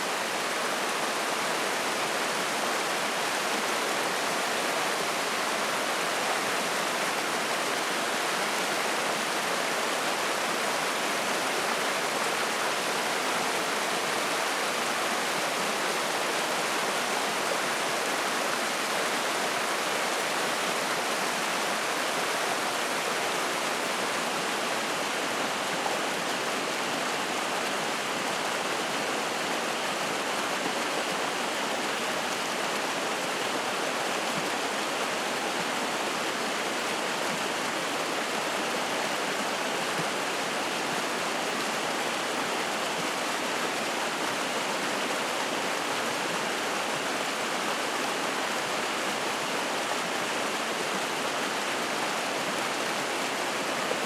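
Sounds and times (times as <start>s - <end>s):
stream running and splashing: 0.0s - 54.0s.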